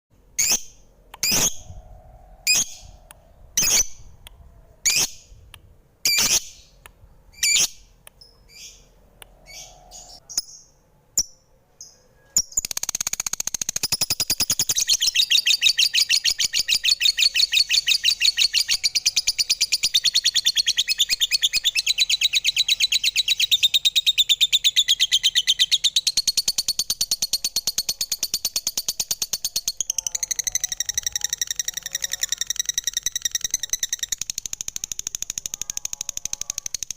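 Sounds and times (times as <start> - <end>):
lovebirds chirping and trilling: 0.4 - 36.9.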